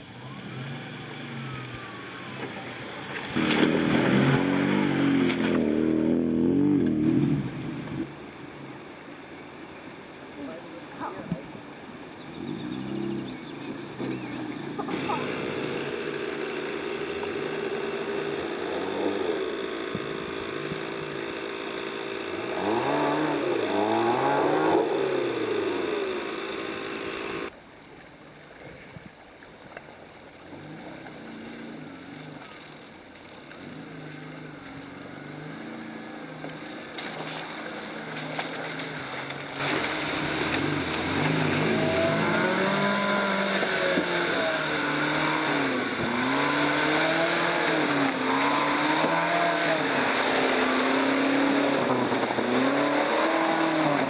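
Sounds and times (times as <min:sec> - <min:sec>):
off-road engines revving: 0:00.0 - 0:08.8, 0:10.4 - 0:27.6, 0:30.3 - 0:54.0.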